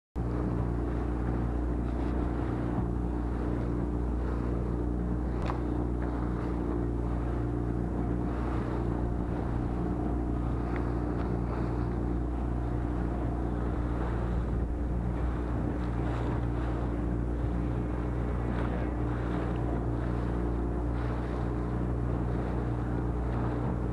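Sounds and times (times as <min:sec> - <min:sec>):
boat motor droning: 0:00.2 - 0:23.9
water rushing past hull: 0:00.2 - 0:23.9.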